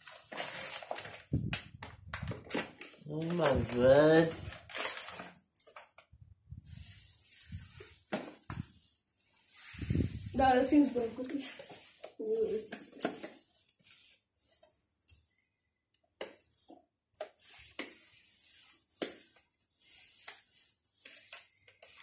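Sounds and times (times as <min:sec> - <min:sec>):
paper packaging rustling and crinkling: 0:00.0 - 0:14.8, 0:17.2 - 0:22.0.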